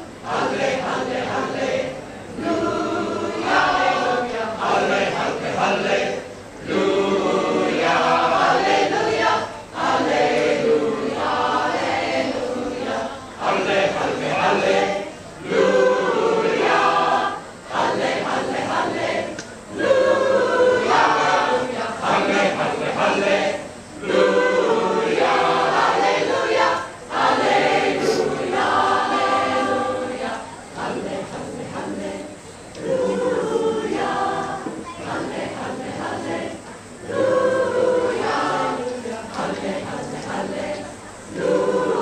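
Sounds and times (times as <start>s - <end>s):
mixed choir singing unaccompanied: 0.0s - 42.0s.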